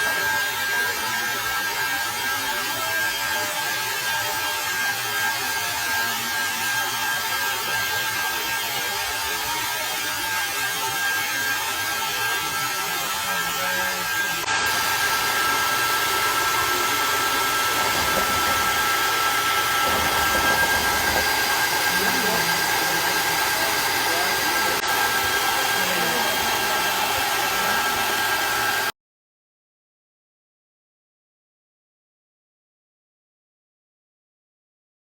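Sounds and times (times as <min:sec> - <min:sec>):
small electric motor whirring: 0:00.1 - 0:28.9.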